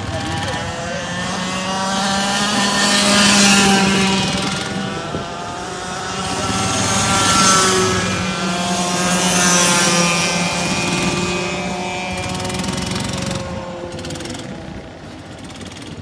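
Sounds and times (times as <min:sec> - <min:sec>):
kart engines passing by: 0:00.0 - 0:16.0.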